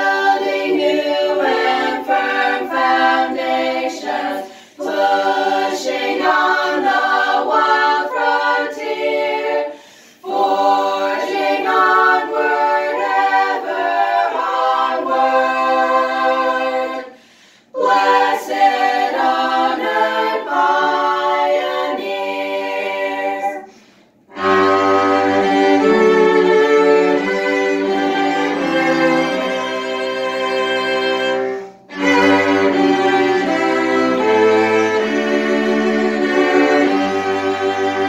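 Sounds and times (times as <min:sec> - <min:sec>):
bowed cellos: 0:00.0 - 0:17.1, 0:24.3 - 0:38.0
girls singing a hymn in harmony: 0:00.0 - 0:38.0.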